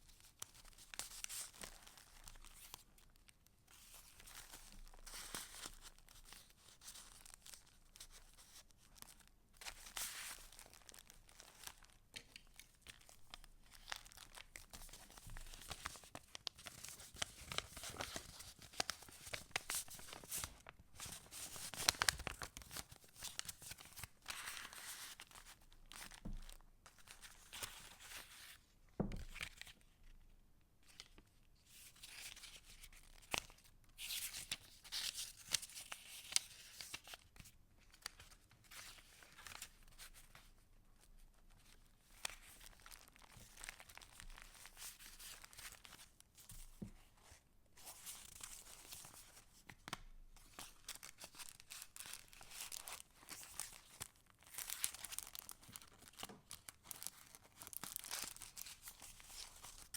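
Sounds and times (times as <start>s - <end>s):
paper pages rustling and crinkling: 0.2s - 3.0s, 3.7s - 30.2s, 31.8s - 40.5s, 41.4s - 59.9s.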